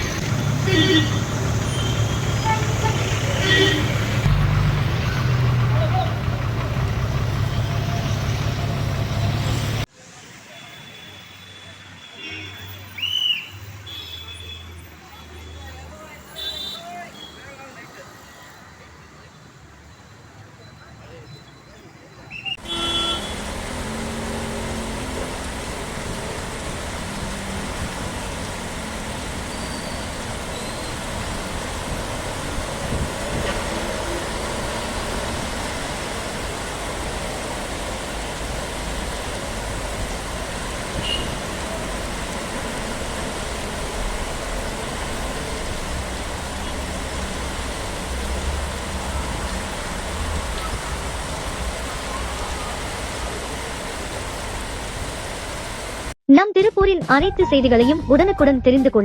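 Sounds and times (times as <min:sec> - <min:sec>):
road traffic rumble: 0:00.0 - 0:56.2.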